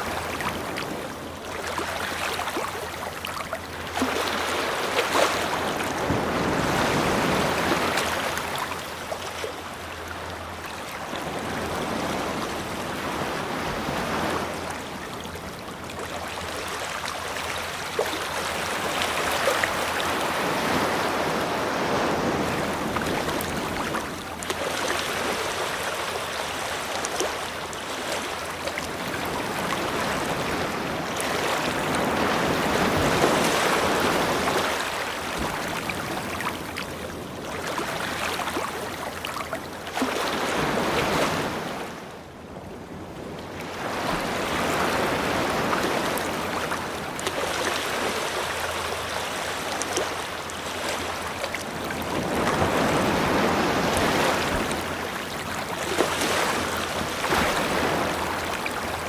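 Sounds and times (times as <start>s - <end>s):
ocean waves breaking: 0.0s - 42.3s, 42.9s - 59.0s.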